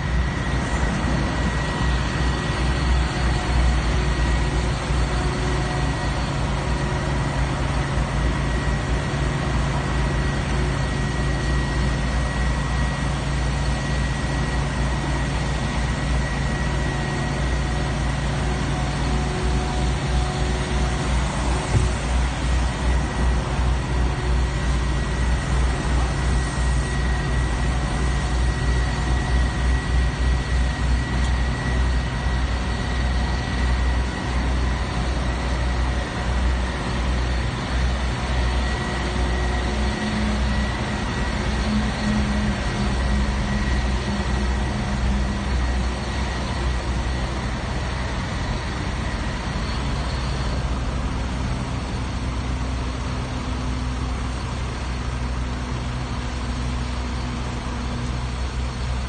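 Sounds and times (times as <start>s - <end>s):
diesel machinery rumbling: 0.0s - 59.0s.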